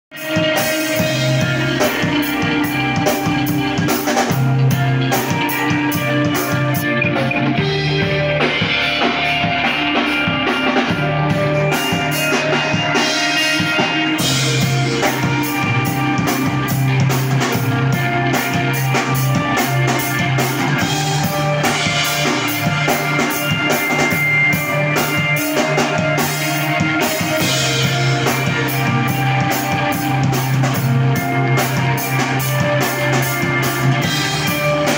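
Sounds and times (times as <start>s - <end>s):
bass guitar: 0.1s - 34.9s
distorted electric guitars: 0.1s - 34.9s
drum kit: 0.1s - 34.9s.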